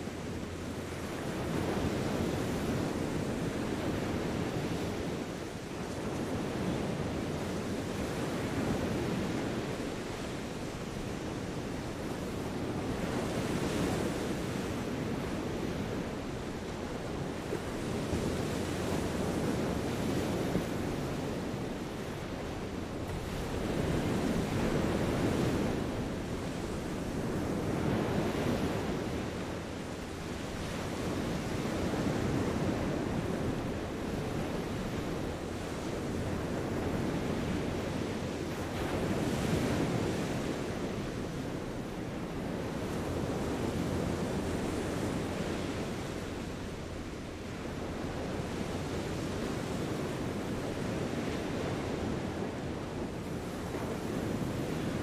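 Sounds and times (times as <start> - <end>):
small waves washing onto sand: 0.0 - 55.0.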